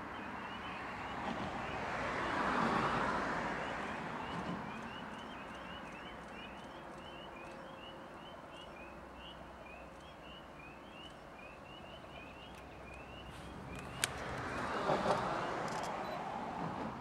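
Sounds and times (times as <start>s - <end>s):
distant train rumble: 0.0s - 17.0s.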